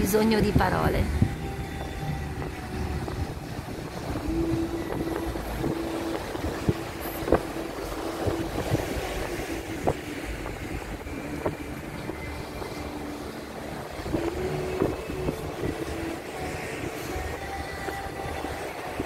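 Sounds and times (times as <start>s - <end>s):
sea waves breaking on beach: 0.0s - 19.0s
wind rumbling on microphone: 0.0s - 19.0s.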